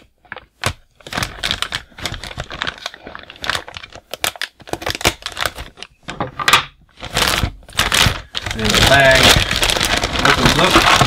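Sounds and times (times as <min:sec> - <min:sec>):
plastic bag crinkling: 0:00.0 - 0:06.0, 0:06.9 - 0:11.0.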